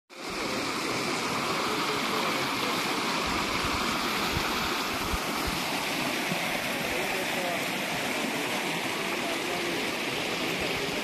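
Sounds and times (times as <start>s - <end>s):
stream rushing over rocks: 0.1s - 11.0s.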